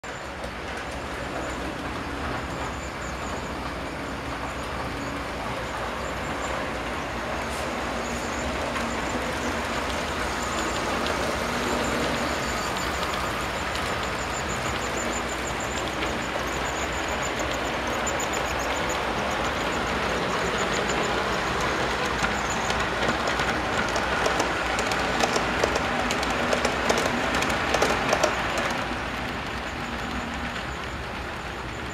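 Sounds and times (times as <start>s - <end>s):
wheels clicking over rail joints: 0.0s - 31.9s
wheels rumbling on track: 0.0s - 31.9s
model train motor whine: 1.5s - 31.9s.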